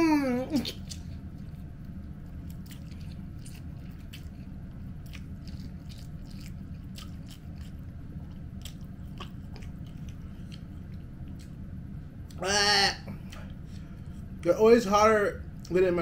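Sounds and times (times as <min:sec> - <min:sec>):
steady low hum: 0:00.0 - 0:16.0
person chewing food: 0:00.5 - 0:12.4, 0:13.1 - 0:14.4.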